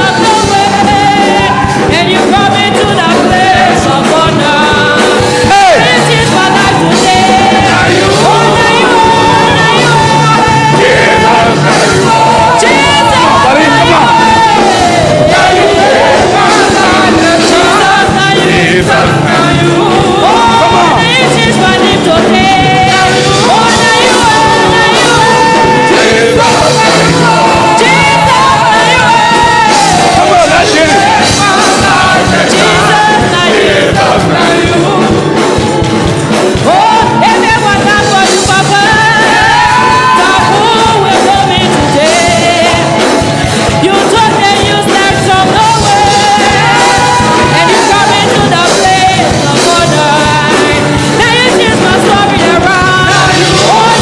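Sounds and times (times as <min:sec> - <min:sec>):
gospel singing: 0:00.0 - 0:54.0
instrumental accompaniment with bass: 0:00.0 - 0:54.0.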